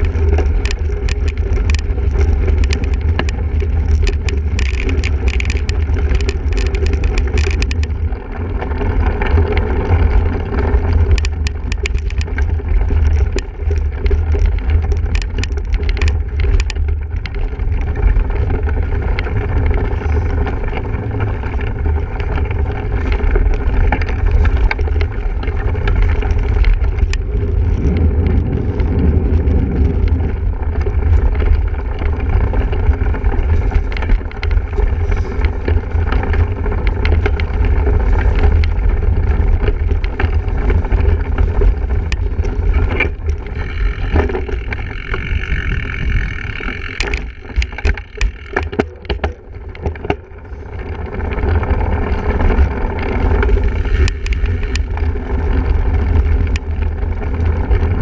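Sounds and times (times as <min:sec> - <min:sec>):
sharp clacks and knocks: 0:00.0 - 0:28.9, 0:29.8 - 0:55.2
wind and riding rumble: 0:00.0 - 0:58.0.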